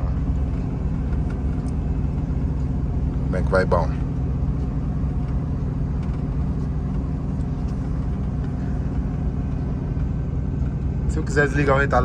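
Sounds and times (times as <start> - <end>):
truck diesel engine drone: 0.0 - 12.0.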